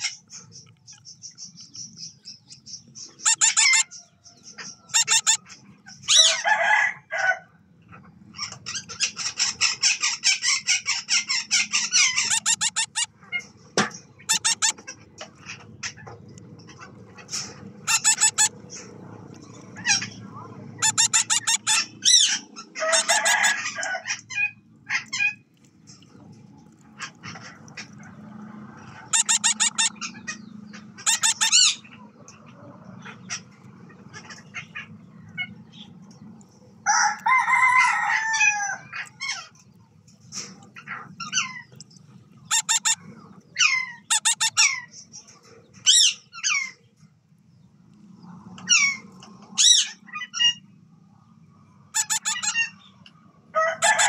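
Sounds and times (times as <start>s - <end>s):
birds harsh pulsed calls: 0.0s - 6.4s, 8.4s - 36.8s, 38.5s - 47.0s, 51.8s - 53.0s.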